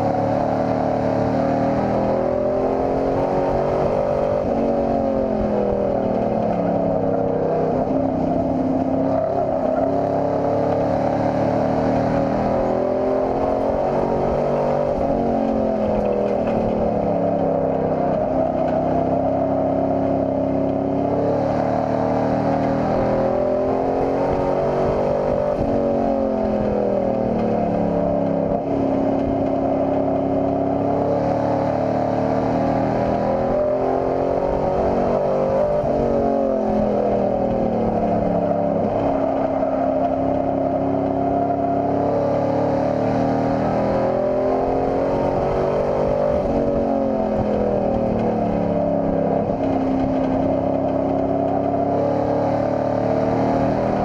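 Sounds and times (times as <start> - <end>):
truck engine racing: 0.0 - 54.0.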